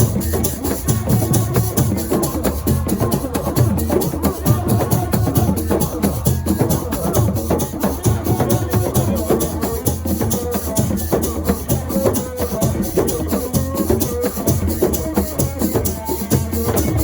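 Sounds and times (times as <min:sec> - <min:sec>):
drums: 0:00.0 - 0:17.0
shaker: 0:00.0 - 0:17.0.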